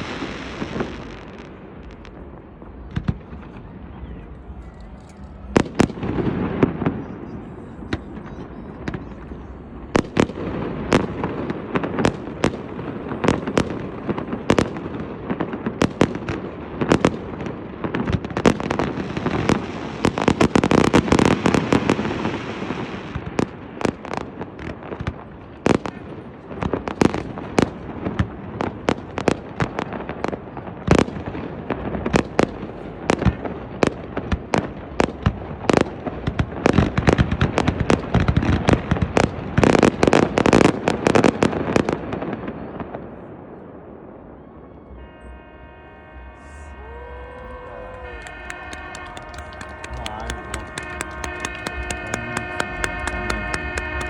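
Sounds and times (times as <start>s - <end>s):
fireworks bangs: 0.0s - 4.6s, 5.3s - 43.2s, 45.0s - 54.0s.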